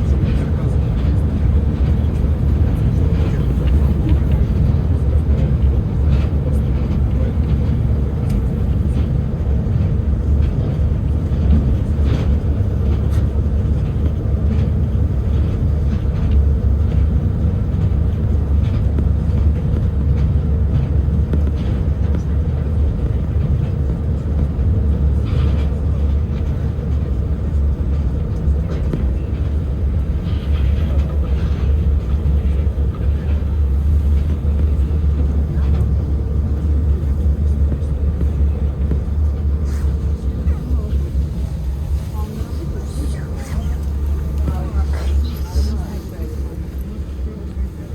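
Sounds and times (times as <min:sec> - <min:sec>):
monorail train rumble: 0:00.0 - 0:47.9.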